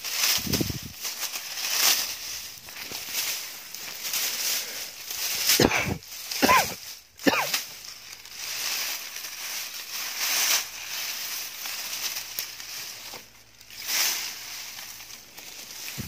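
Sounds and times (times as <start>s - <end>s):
footsteps crunching through dry brush: 0.0s - 16.0s.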